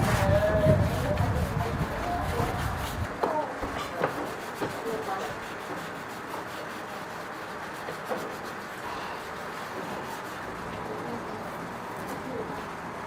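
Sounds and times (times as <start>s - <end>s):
steady rubbing noise: 0.0s - 12.8s.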